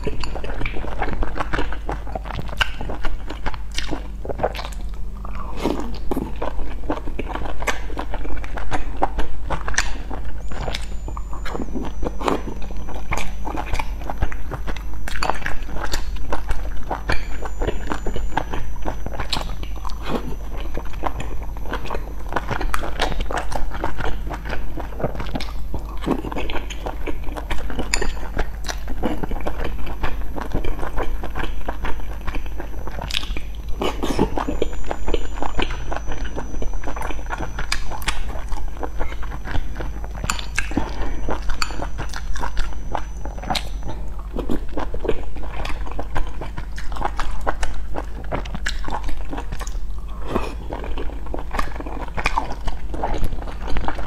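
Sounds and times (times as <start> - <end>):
person chewing: 0.0 - 54.0
steady low hum: 0.0 - 54.0.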